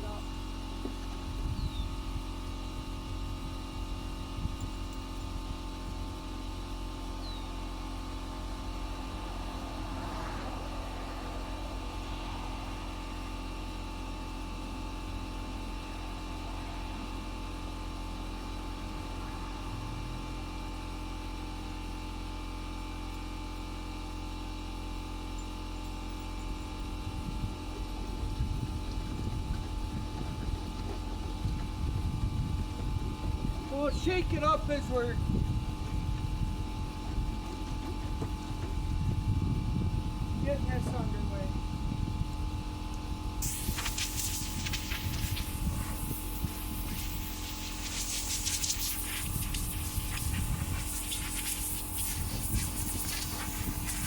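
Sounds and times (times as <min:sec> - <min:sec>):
machine droning: 0:00.0 - 0:54.0
uneven low rumbling: 0:00.0 - 0:54.0.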